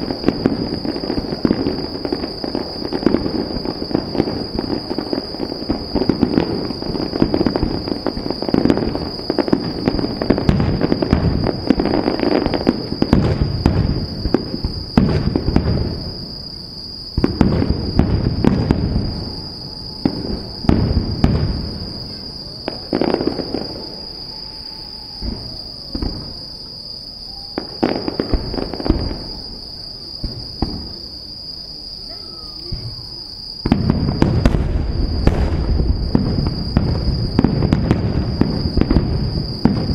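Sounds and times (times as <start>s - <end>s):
fireworks booming and crackling: 0.0s - 39.9s.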